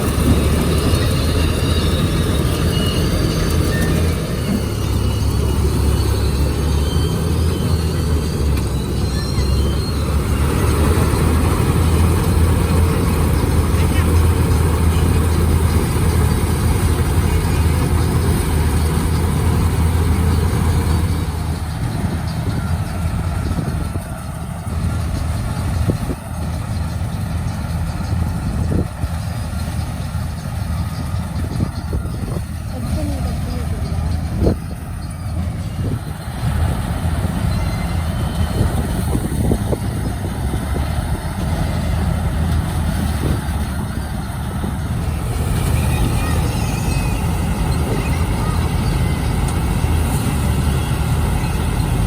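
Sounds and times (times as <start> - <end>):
harvester engine drone: 0.0 - 52.0.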